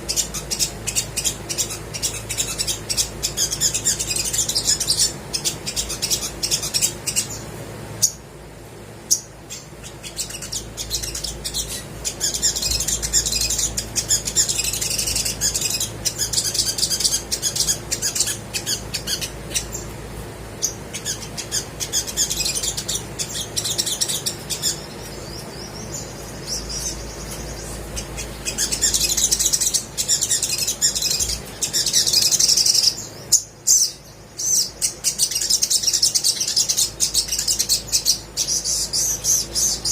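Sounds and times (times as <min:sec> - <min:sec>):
bird twittering and chattering: 0:00.0 - 0:08.3, 0:09.0 - 0:39.9.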